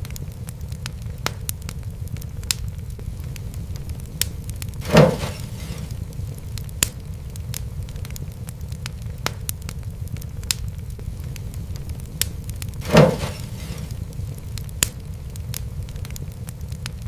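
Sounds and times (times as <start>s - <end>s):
fire popping: 0.0s - 17.0s
fireplace fire crackling: 0.0s - 17.0s
hiss: 0.0s - 17.0s
low rumble: 0.0s - 17.0s.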